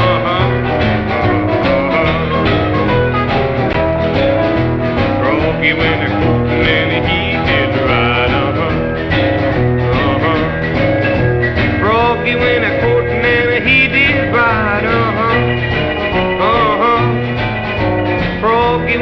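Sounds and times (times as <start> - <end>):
country rock and roll band: 0.0 - 19.0
lead guitar with bent notes: 0.0 - 19.0.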